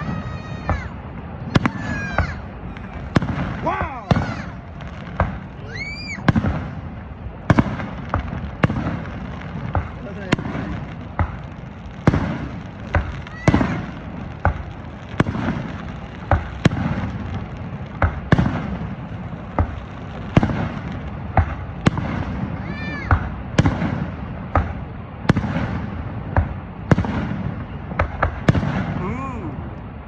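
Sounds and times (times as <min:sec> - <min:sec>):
fireworks bangs: 0:00.0 - 0:30.0
steady background rumble: 0:00.0 - 0:30.0.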